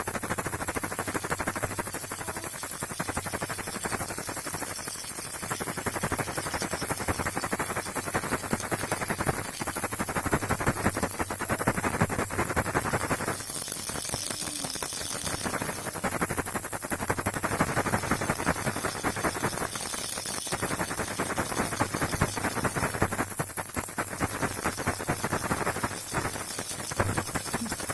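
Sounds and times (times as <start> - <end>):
baby rattle shaken: 0.0 - 27.9.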